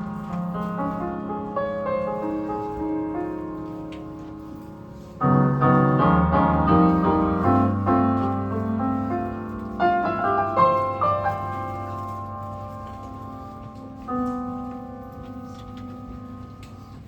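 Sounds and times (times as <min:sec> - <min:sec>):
piano playing jazz chords: 0:00.0 - 0:17.0.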